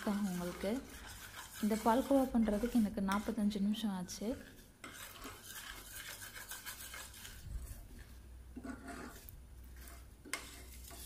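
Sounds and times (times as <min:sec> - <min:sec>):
metal spoon scraping a pan: 0:00.0 - 0:11.0.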